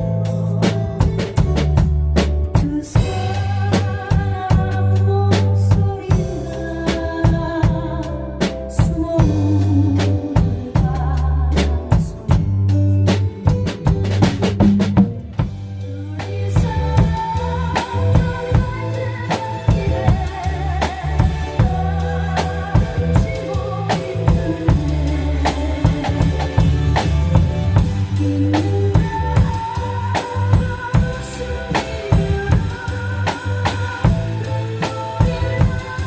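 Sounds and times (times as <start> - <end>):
drum kit playing: 0.0 - 36.0
recorded ballad accompaniment: 0.0 - 36.0.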